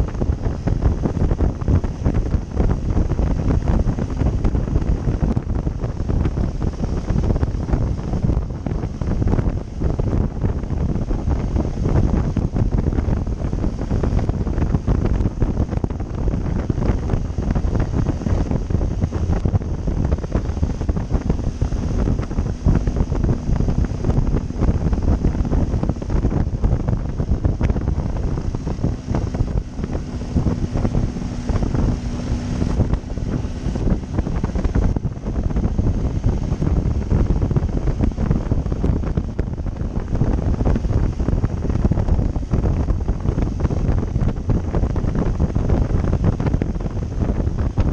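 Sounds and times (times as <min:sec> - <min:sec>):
faint motorcycle engine hum: 0:00.0 - 0:47.9
wind buffeting microphone: 0:00.0 - 0:47.9.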